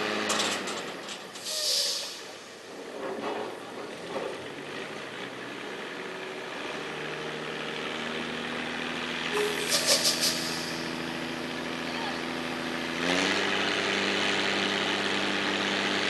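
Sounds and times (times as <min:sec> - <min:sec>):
diesel truck engine humming: 0:00.0 - 0:16.0.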